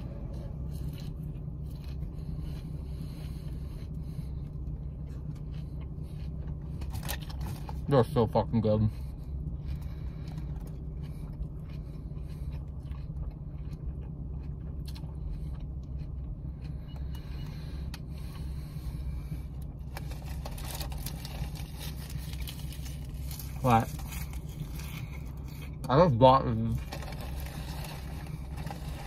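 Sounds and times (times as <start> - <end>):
low hum in car cabin: 0.0 - 29.0.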